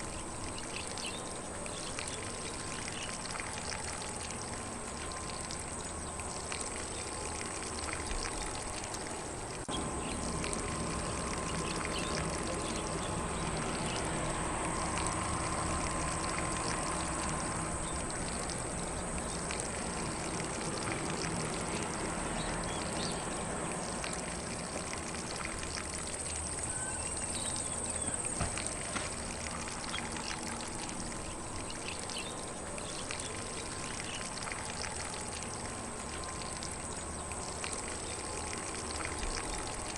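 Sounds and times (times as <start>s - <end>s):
sprinkler spraying water: 0.0s - 39.9s.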